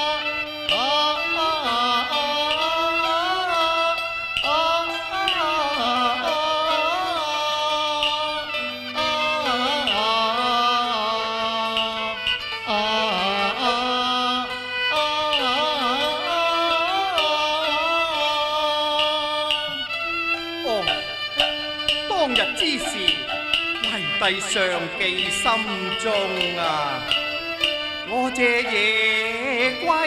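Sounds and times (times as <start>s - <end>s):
opera ensemble with bowed fiddles: 0.0s - 30.0s.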